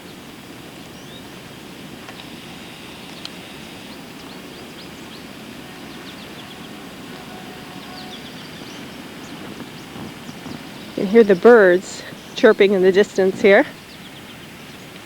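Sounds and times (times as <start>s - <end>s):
distant birds chirping: 0.0s - 15.0s.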